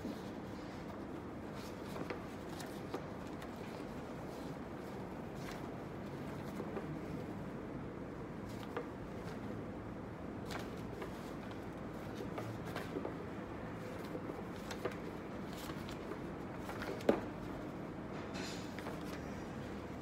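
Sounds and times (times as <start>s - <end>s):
paper envelopes rustling: 0.0s - 17.9s, 18.6s - 20.0s
low background noise: 0.0s - 20.0s.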